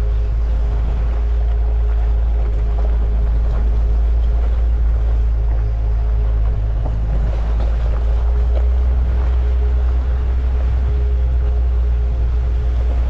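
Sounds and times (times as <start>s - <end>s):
vehicle hum: 0.0s - 13.0s
wind rumbling on microphone: 0.0s - 13.0s.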